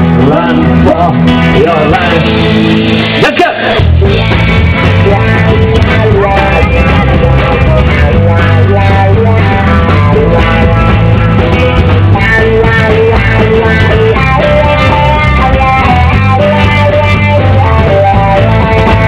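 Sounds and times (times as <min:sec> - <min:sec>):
guitar-led rock music: 0:00.0 - 0:19.0.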